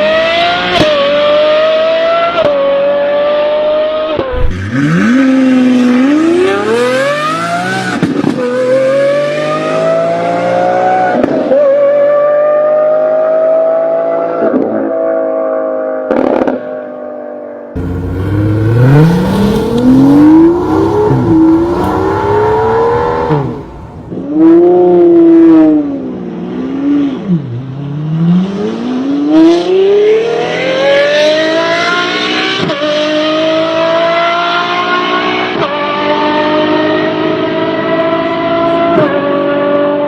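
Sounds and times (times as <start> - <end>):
car engine accelerating hard: 0.0 - 14.6, 17.8 - 40.0.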